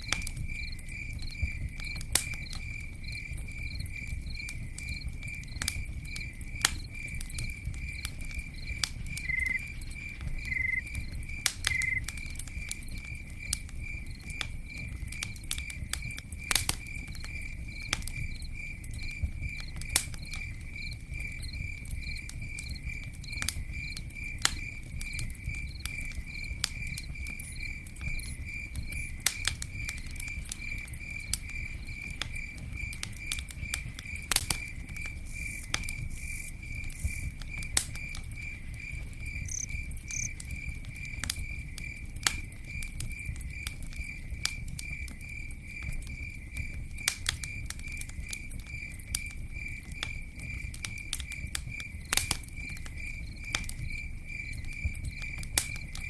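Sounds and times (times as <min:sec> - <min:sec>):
campfire crackling and popping: 0:00.0 - 0:56.0
cricket chirping: 0:00.0 - 0:56.0
lower cricket chirp: 0:00.0 - 0:56.0.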